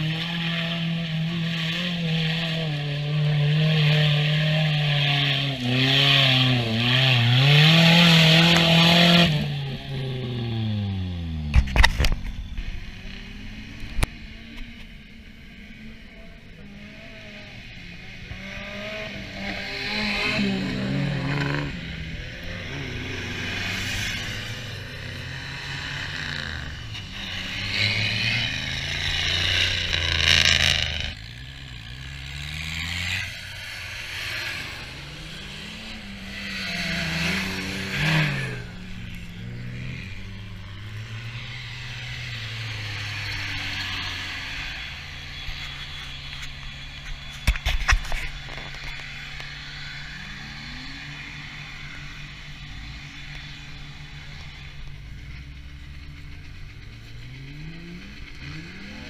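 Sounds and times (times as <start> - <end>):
off-road buggy engines revving: 0.0 - 59.0.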